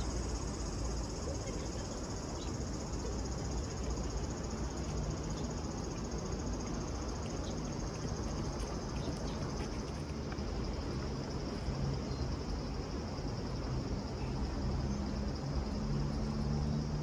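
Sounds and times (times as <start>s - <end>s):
cicadas shrilling: 0.0s - 17.0s.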